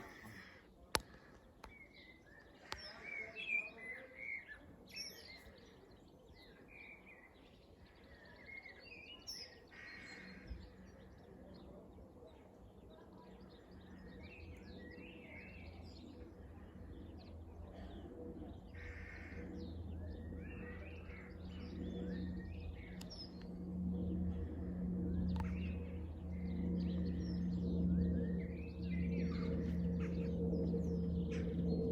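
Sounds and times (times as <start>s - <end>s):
songbirds chirping: 0.0s - 31.9s
turboprop aircraft drone: 0.0s - 31.9s.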